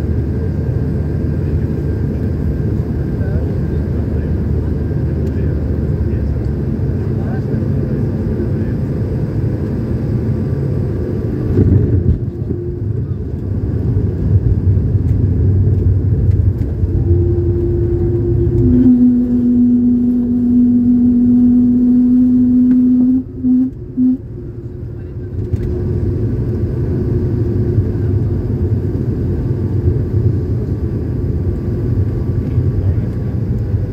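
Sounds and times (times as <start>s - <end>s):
airliner cabin rumble: 0.0s - 33.9s
low hum: 0.0s - 33.9s.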